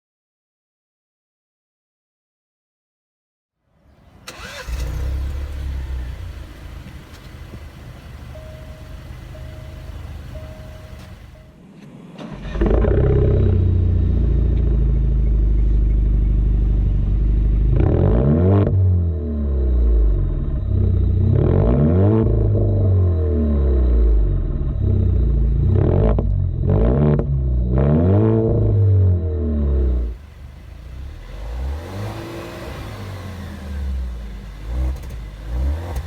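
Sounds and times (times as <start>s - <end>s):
car engine idling and revving: 3.8s - 36.0s
car engine starting: 3.8s - 36.0s.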